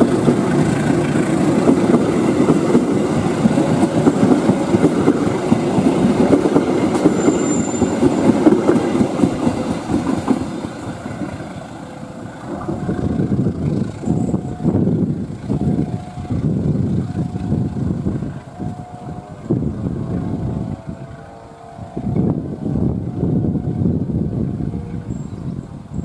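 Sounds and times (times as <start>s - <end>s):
train wheels clattering on rails: 0.0s - 20.9s.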